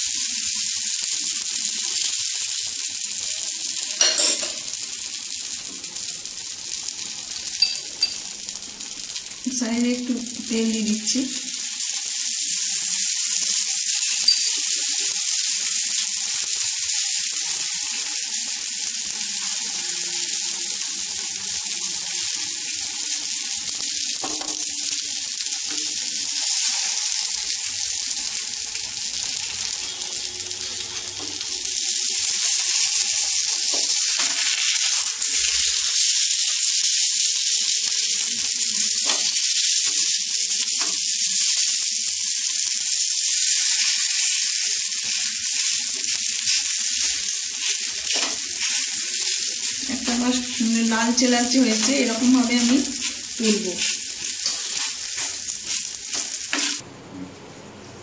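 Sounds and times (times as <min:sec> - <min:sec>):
pancake sizzling in a pan: 0:00.0 - 0:56.8.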